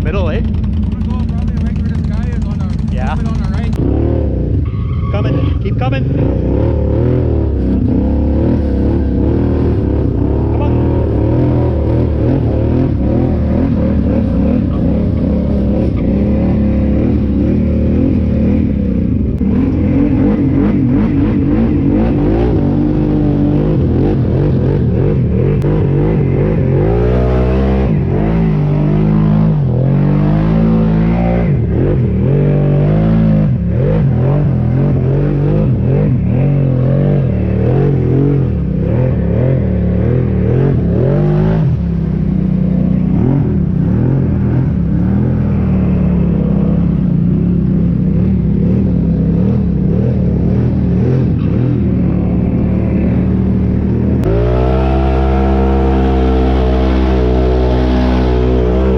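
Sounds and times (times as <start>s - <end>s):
atv engine revving: 0.0s - 58.9s.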